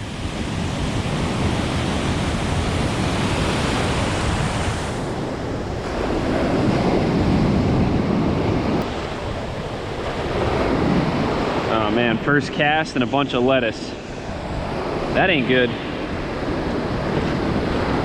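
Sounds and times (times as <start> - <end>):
ocean surf breaking on sand: 0.0 - 18.0
wind rushing over microphone: 0.0 - 18.0.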